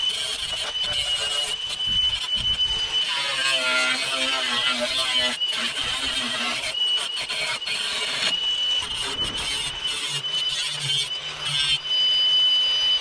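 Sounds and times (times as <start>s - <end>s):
angle grinder motor whine: 0.0s - 13.0s.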